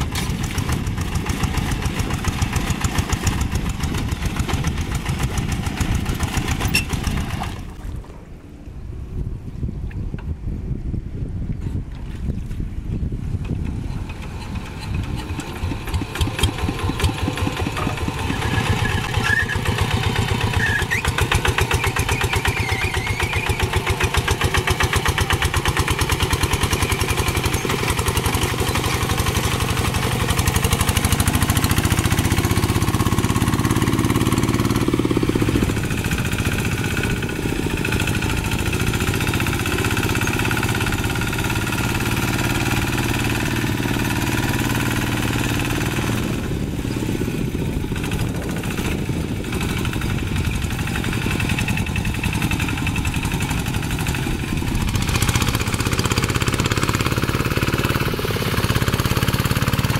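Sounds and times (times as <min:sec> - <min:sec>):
diesel engine chugging: 0:00.0 - 0:07.8, 0:13.4 - 0:59.9.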